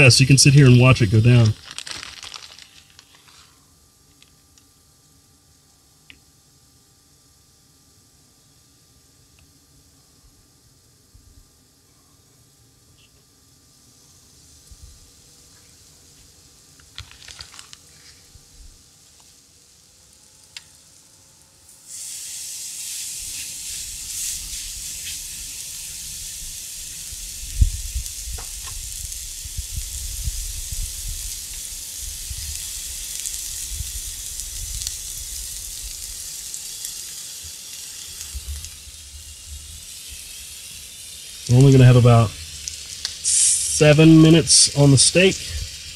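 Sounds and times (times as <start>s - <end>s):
food sizzling on griddle: 0.0s - 6.0s, 12.8s - 45.9s.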